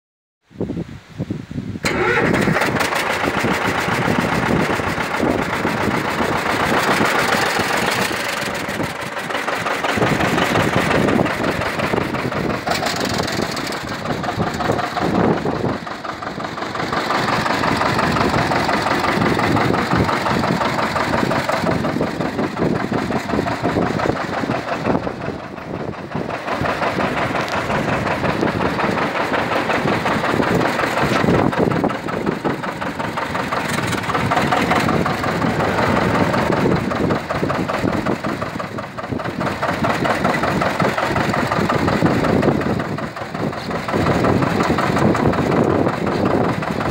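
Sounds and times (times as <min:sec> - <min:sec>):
tractor engine idling: 0:01.8 - 0:46.9.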